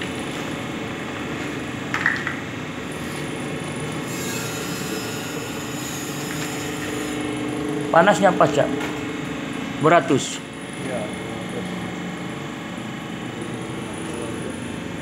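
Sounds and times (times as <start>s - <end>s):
moulding machine humming: 0.0s - 15.0s.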